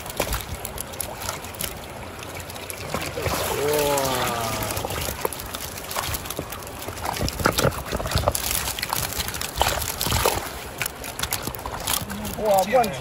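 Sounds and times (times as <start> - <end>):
creek water rushing: 0.0 - 13.0
fish flapping in net: 0.0 - 13.0.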